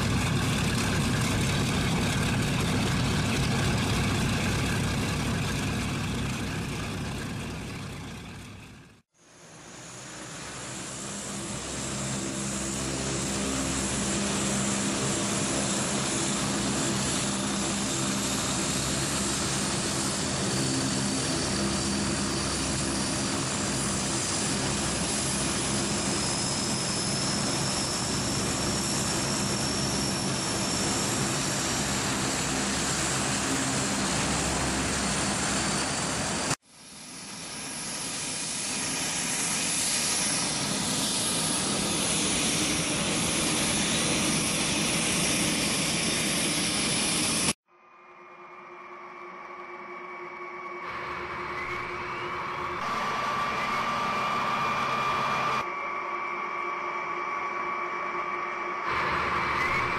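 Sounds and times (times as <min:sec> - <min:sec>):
aircraft engines droning: 0:00.0 - 0:59.9
high engine whine: 0:00.0 - 0:59.9.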